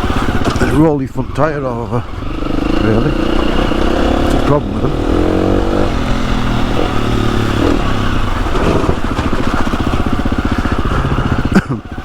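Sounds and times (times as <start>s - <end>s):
motorcycle engine chugging: 0.0s - 12.0s.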